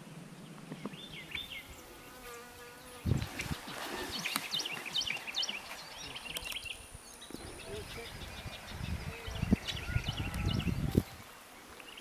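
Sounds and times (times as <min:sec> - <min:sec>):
birds chirping: 0:00.4 - 0:12.0.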